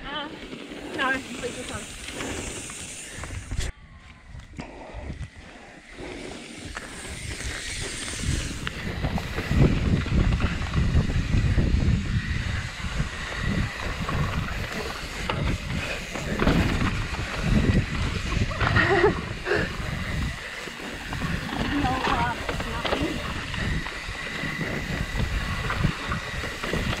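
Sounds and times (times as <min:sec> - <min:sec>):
bike tyres rattling on dirt: 0:00.0 - 0:03.7, 0:04.8 - 0:27.0
wind rushing over microphone: 0:01.1 - 0:27.0.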